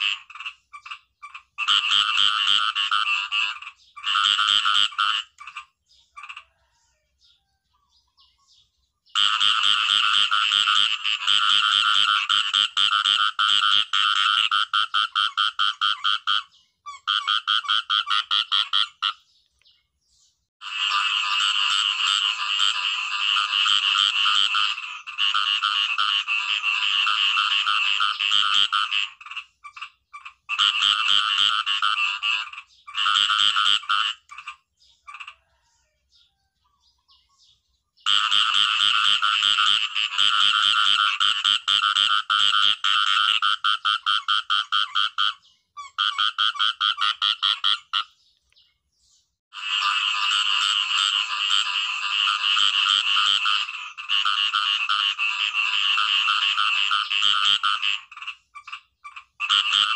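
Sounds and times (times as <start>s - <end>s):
frog calling in rattling pulses: 0.0s - 6.7s, 9.2s - 19.2s, 20.6s - 35.6s, 38.0s - 48.1s, 49.6s - 59.9s.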